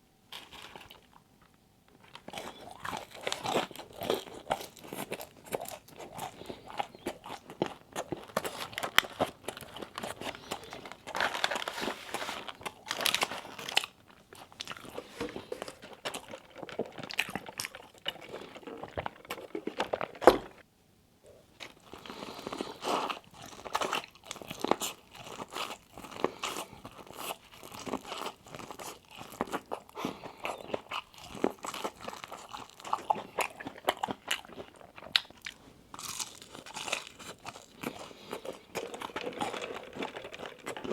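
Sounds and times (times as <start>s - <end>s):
chewing and crunching food: 0.0s - 20.6s, 21.3s - 40.9s.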